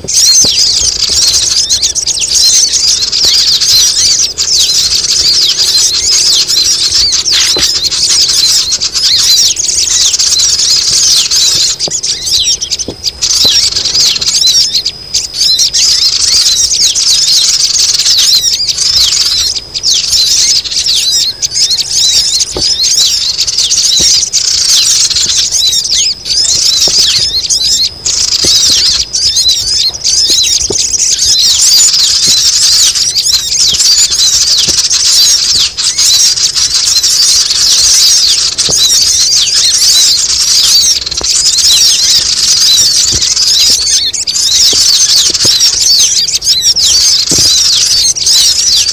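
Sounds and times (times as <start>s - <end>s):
birds chirping in chorus: 0.0s - 48.9s.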